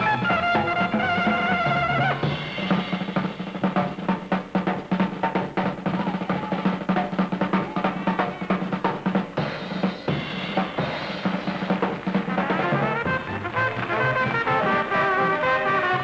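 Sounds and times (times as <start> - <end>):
drum kit solo: 0.0 - 16.0.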